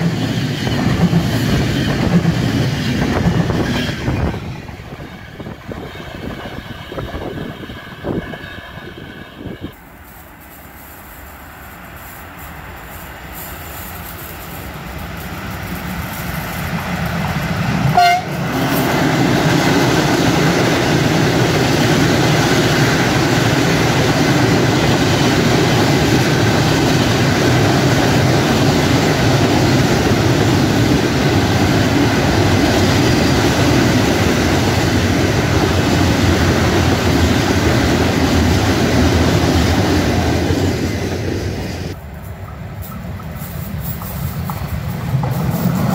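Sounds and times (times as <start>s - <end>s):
train rolling rumble: 0.0s - 45.9s.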